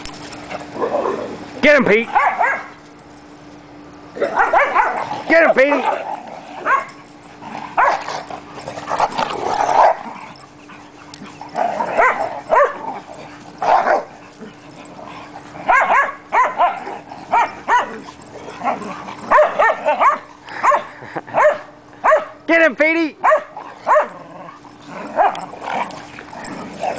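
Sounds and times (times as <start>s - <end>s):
dogs barking and yipping: 0.0s - 22.5s, 23.2s - 26.9s.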